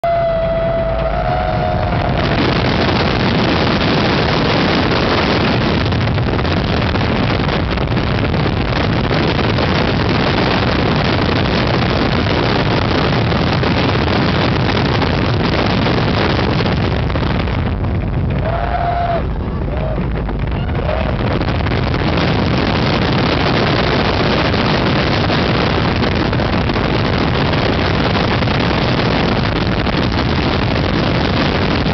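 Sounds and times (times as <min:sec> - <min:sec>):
roller coaster on track: 0:00.0 - 0:31.9
wind buffeting microphone: 0:00.0 - 0:31.9.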